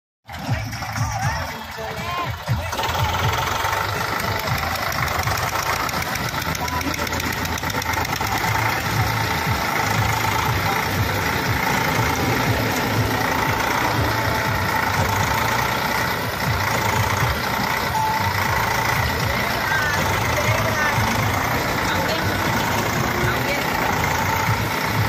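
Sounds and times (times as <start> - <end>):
diesel tractor engines running: 0.3 - 25.0.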